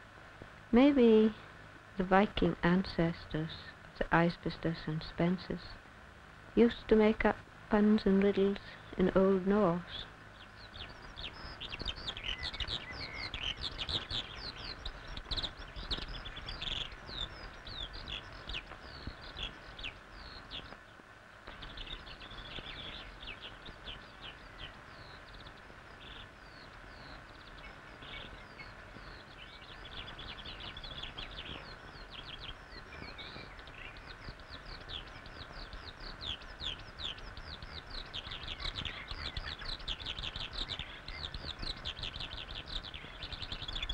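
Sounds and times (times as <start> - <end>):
low hiss and rumble: 0.0 - 43.9
small birds chirping: 0.0 - 43.9.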